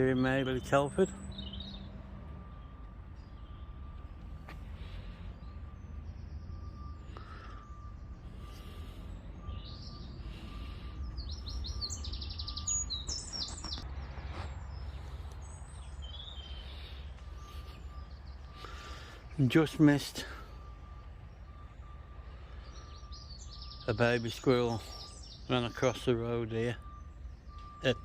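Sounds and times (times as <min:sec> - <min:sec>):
songbird twittering: 0:00.0 - 0:28.0.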